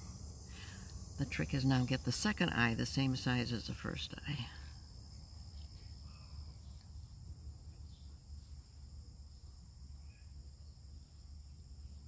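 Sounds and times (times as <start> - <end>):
insects trilling: 0.0 - 12.0
low constant rumble: 0.0 - 12.0.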